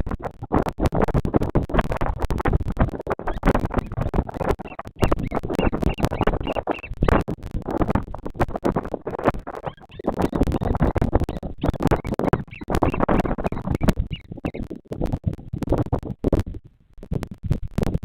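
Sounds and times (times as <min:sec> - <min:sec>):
crackling and rustling at microphone: 0:00.0 - 0:18.0.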